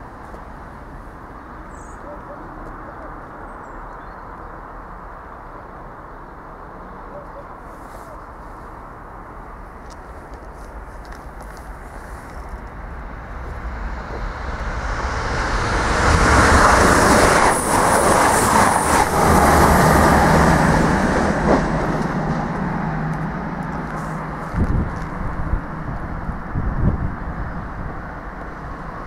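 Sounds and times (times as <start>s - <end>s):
train passing: 0.0s - 29.0s.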